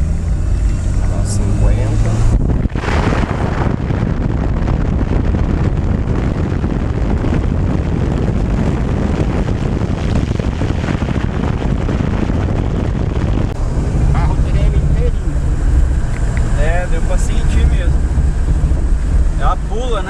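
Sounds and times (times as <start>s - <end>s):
tyre and road noise: 0.0s - 20.0s
wind buffeting microphone: 0.0s - 20.0s.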